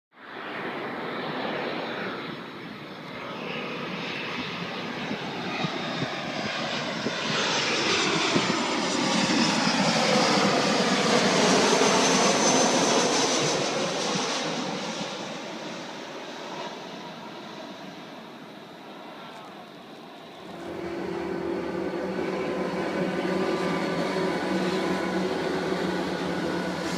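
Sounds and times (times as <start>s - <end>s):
jet airliner passing overhead: 0.1s - 26.9s.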